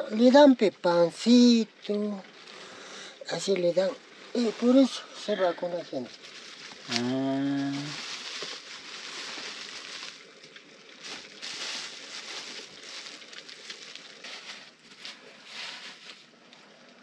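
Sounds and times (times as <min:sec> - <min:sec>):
cooking fire hissing: 0:00.0 - 0:17.0
fire crackles: 0:00.0 - 0:17.0.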